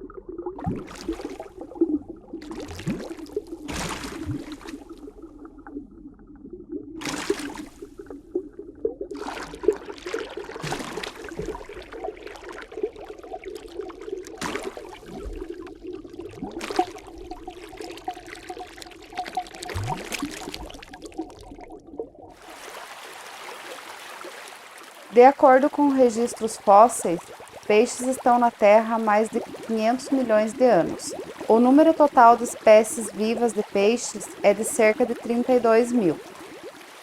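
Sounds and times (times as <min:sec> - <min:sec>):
underwater bubbling and gurgling: 0:00.0 - 0:37.0.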